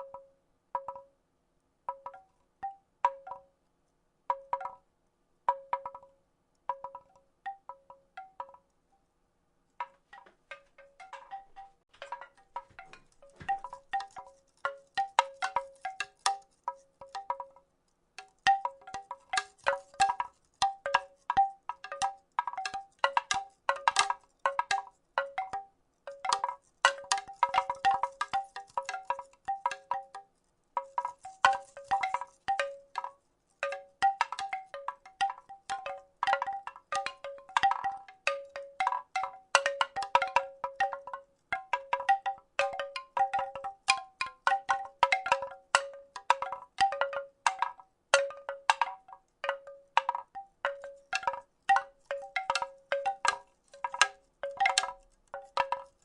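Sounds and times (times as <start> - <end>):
wooden rattle clacking: 6.7 - 8.7, 9.8 - 17.6, 18.2 - 56.0.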